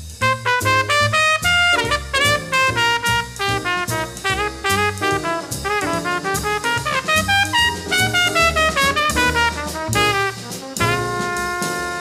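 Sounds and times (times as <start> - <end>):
bebop jazz: 0.0 - 12.0
fast horn line: 0.2 - 12.0.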